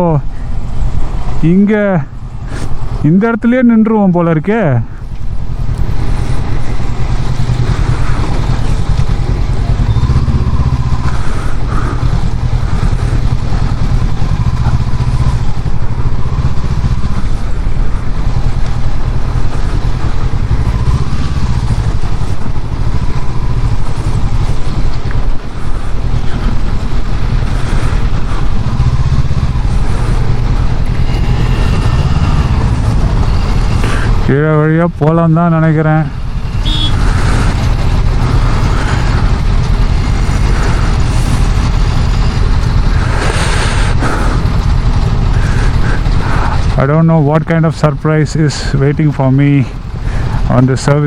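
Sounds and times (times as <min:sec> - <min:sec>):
motorcycle engine rumbling: 0:00.0 - 0:51.0.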